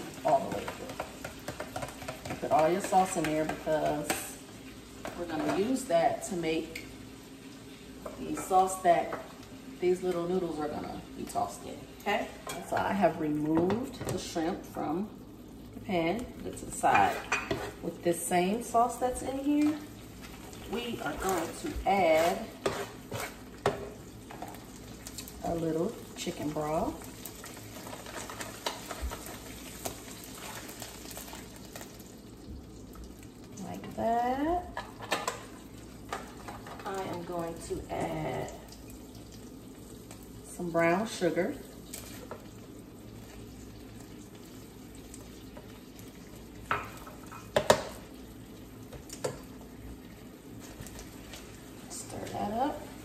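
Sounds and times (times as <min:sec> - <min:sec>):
sauce sizzling in frying pan: 0:00.0 - 0:53.0.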